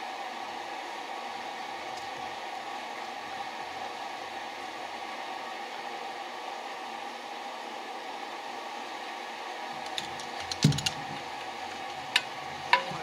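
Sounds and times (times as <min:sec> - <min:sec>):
fan-like hiss: 0:00.0 - 0:13.0.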